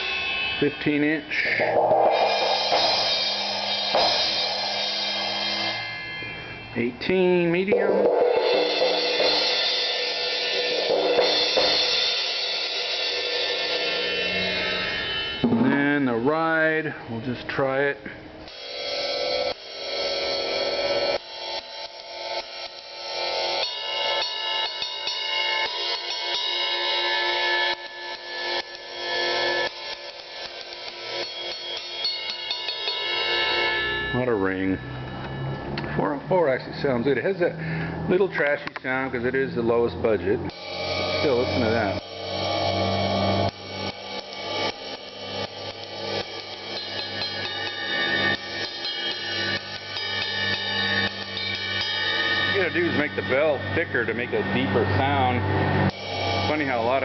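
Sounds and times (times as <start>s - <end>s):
ride cymbal played with drumstick: 0.0s - 16.0s, 18.4s - 39.7s, 40.4s - 57.0s.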